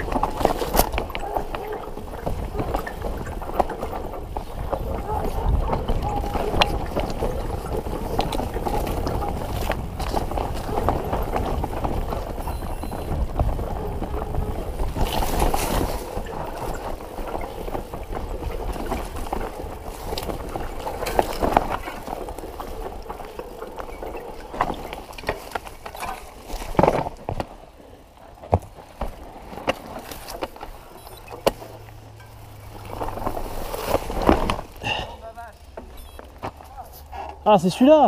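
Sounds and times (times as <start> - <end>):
bike knocking and rattling: 0.0 - 38.0
bike tyre noise and rumble: 0.0 - 38.0.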